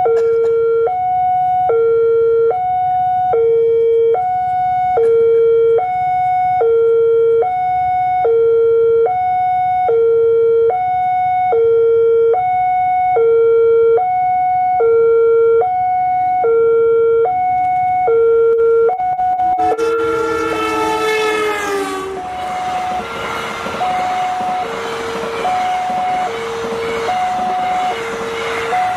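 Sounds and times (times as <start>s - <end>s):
level crossing alarm two alternating tones: 0.0s - 28.9s.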